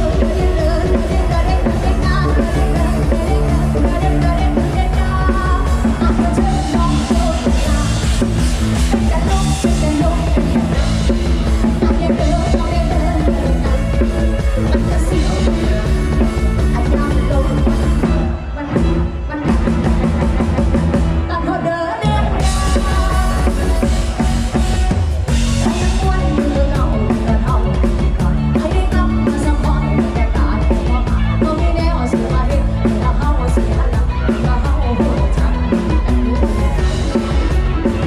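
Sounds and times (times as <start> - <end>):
drum kit beat: 0.0 - 38.0
loud band music: 0.0 - 38.0.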